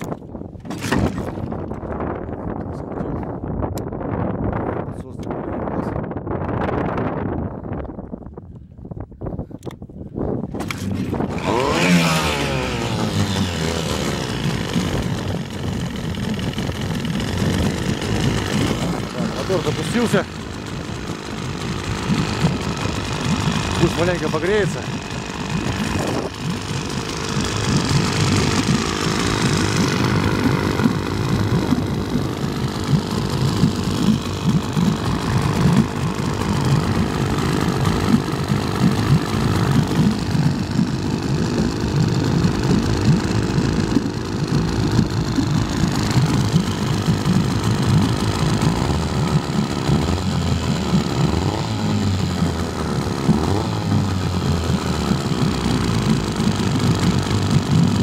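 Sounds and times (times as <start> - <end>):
outboard motor idling: 0.0 - 2.8, 9.6 - 58.0.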